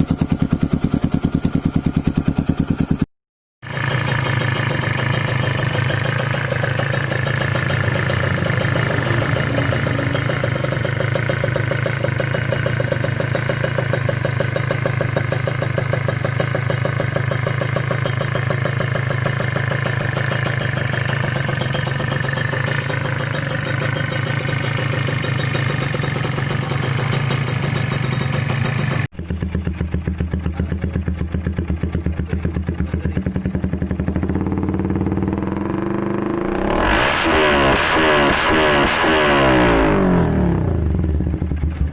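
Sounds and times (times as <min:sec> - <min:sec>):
motorcycle idling: 0:00.0 - 0:41.9
deeper exhaust idling: 0:03.8 - 0:37.8.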